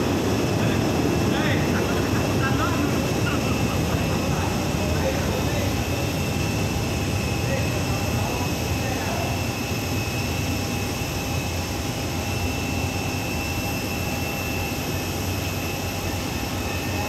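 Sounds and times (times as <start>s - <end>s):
jet turbine whine: 0.0s - 17.0s.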